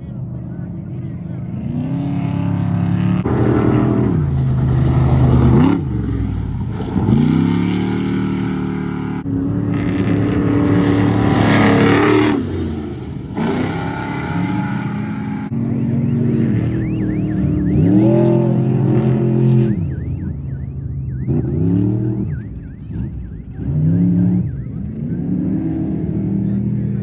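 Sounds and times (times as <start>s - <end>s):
race truck engines revving: 0.0s - 27.0s.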